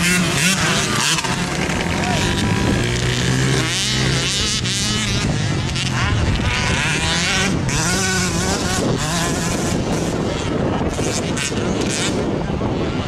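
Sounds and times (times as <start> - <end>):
motocross motorcycles revving: 0.0 - 13.0.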